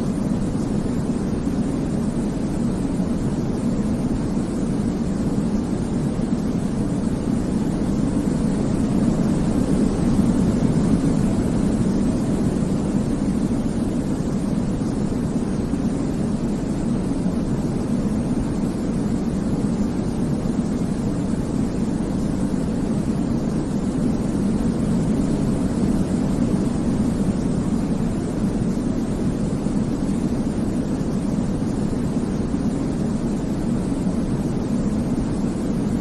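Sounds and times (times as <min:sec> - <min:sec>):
low white noise rumble: 0:00.0 - 0:36.0.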